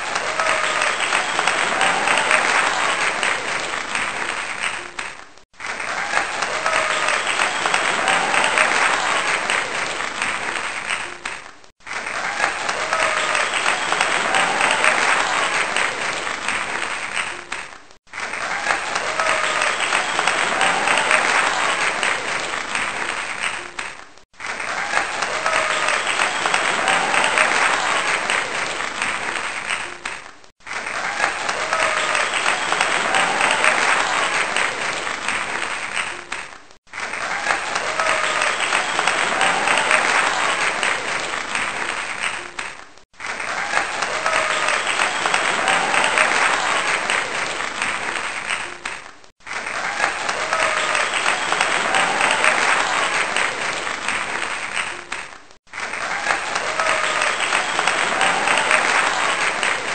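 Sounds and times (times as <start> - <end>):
crowd applause: 0.0 - 59.9.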